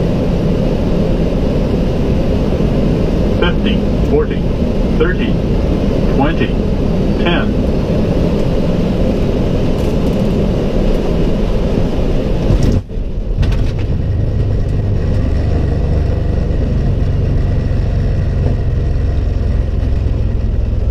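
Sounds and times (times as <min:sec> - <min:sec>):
jet airliner rumble: 0:00.0 - 0:20.9.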